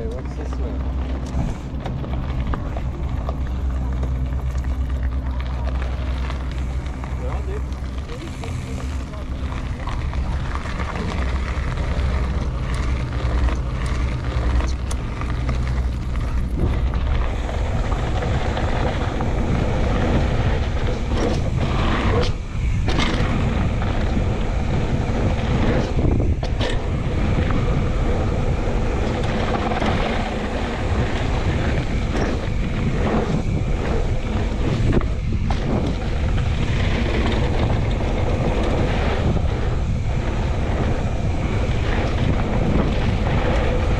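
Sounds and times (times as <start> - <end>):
mountain bike rumbling and rattling: 0.0 - 43.9
wind buffeting microphone: 0.0 - 43.9.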